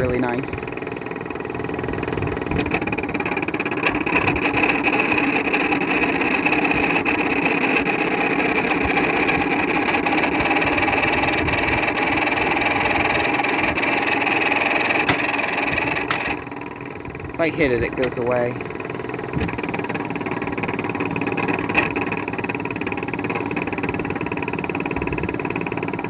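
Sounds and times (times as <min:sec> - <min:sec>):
air conditioner running: 0:00.0 - 0:26.0.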